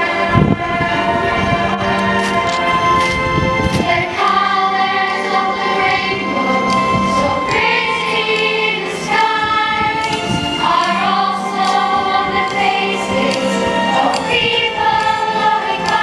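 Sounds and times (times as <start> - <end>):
choir singing held notes: 0.0 - 16.0
musical accompaniment: 0.0 - 16.0.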